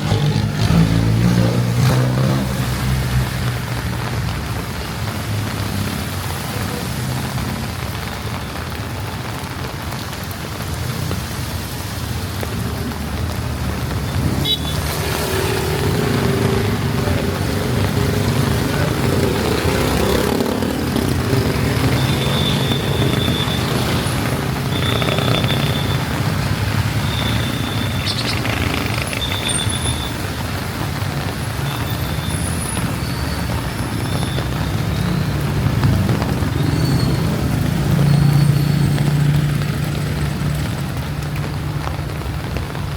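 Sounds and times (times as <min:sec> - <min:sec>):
rain and tyres hissing: 0:00.0 - 0:42.9
vehicle engines passing: 0:00.0 - 0:42.9.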